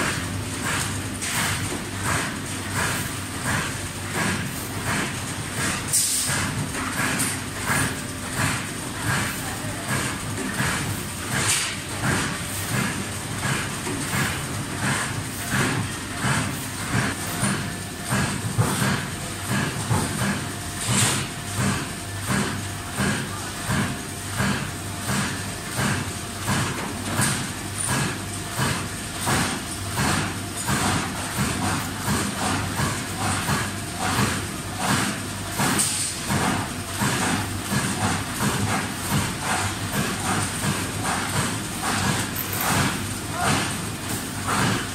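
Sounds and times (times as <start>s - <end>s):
roll forming machine running: 0.0s - 44.9s.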